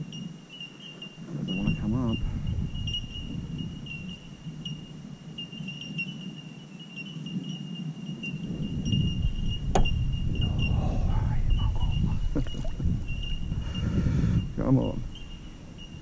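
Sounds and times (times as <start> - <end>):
high insect-like chirring: 0.0 - 16.0.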